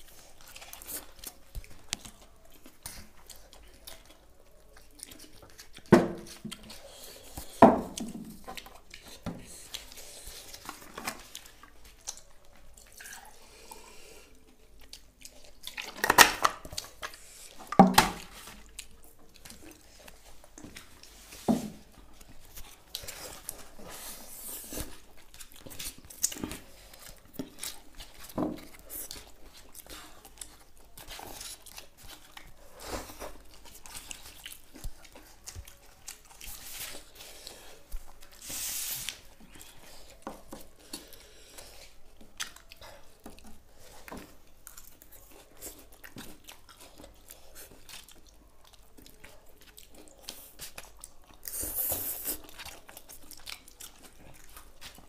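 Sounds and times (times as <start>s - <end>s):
mouth sounds of eating: 0.0s - 55.0s.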